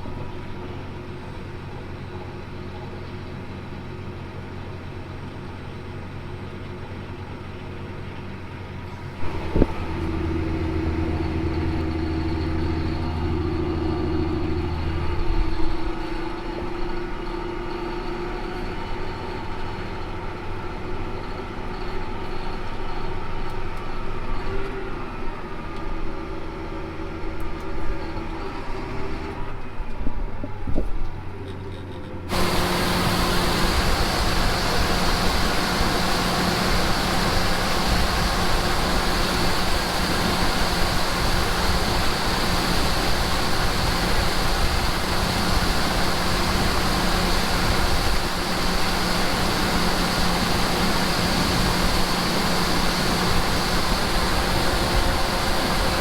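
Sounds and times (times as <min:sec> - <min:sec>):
diesel engine droning: 0:08.8 - 0:56.0.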